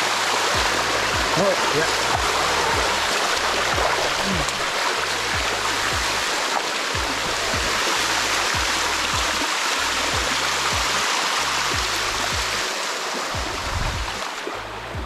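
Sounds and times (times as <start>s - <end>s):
background music with kick drum: 0.0s - 15.0s
waterfall rushing over rock: 0.0s - 15.0s.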